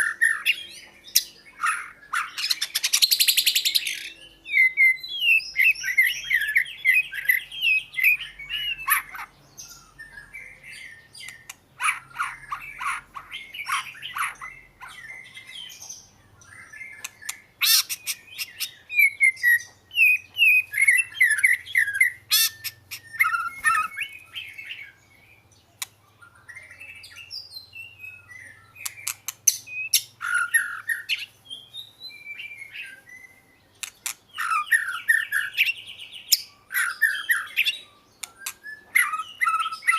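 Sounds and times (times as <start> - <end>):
bird singing whistled phrases: 0.0 - 25.4, 26.0 - 33.7, 34.3 - 39.9.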